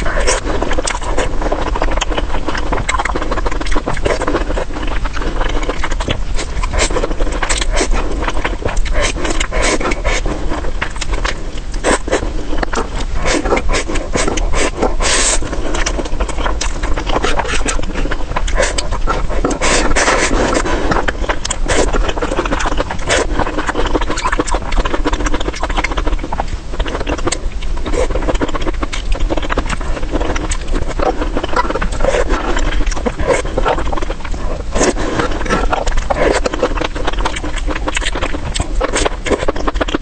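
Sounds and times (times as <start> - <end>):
chewing crunches and clicks: 0.0 - 40.0
steady low rumble: 0.0 - 40.0.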